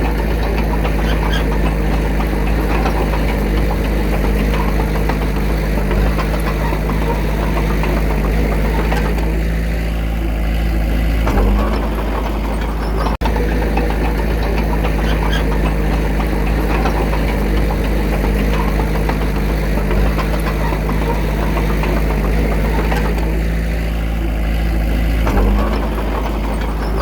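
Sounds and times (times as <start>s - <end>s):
diesel engine knocking clatter: 0.0s - 27.0s.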